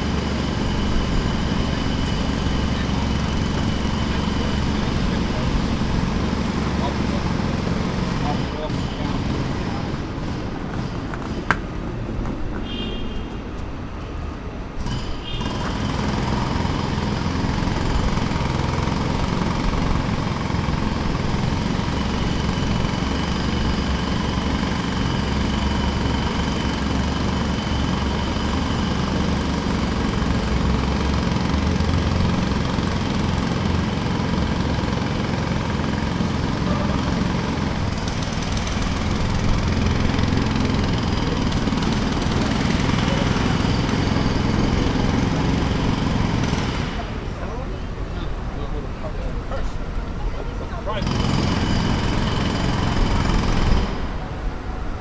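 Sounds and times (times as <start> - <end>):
jackhammer hammering: 0.0 - 11.9, 14.7 - 48.1, 50.9 - 54.5
engine running: 0.0 - 12.8, 13.6 - 55.0.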